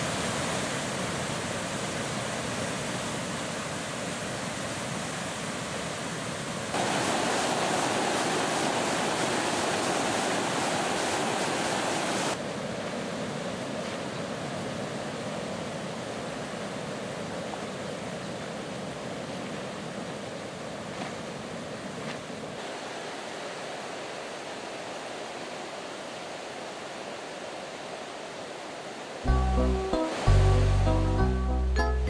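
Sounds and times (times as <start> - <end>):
water rushing over weir: 0.0 - 31.4.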